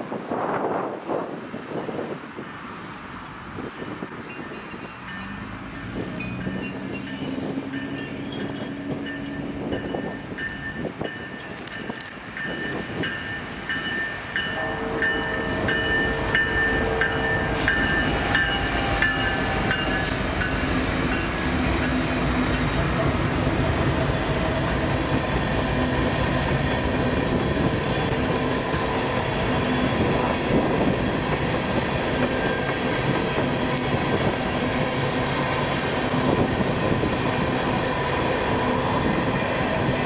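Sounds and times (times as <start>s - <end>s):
freight cars rumbling on rails: 0.0s - 40.0s.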